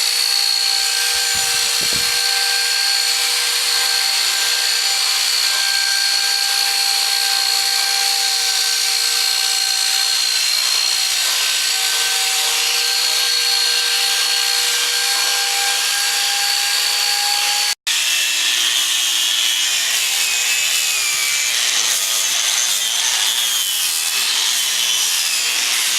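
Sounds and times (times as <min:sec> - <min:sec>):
power tool whining on wood: 0:00.0 - 0:25.9.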